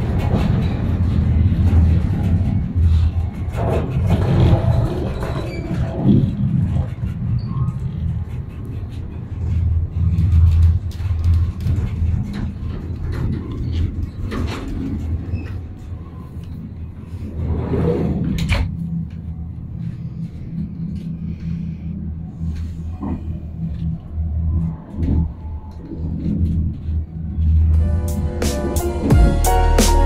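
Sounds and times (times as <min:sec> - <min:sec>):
train rumble from inside carriage: 0:00.0 - 0:30.0.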